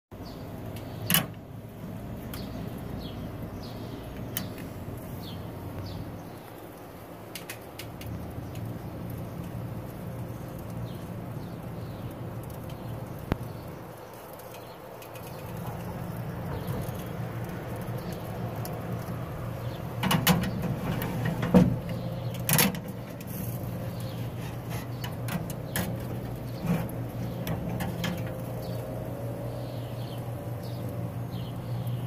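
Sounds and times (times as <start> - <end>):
small birds chirping: 0.2 - 32.0.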